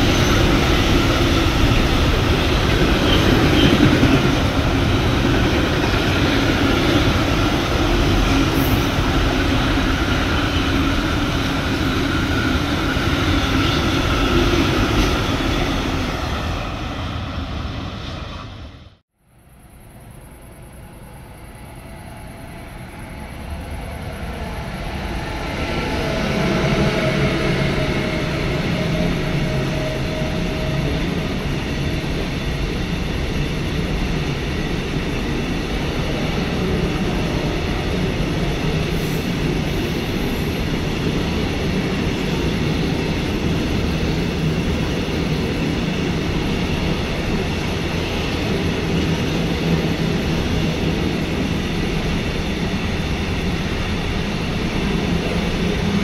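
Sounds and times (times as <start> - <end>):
train wheels rumbling on rail: 0.0 - 19.0, 20.1 - 56.0.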